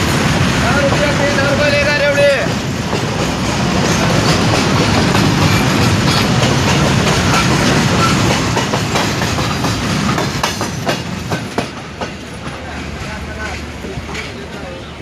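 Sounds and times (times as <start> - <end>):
train rumbling on track: 0.0 - 15.0
wheels clacking over rail joints: 0.0 - 15.0.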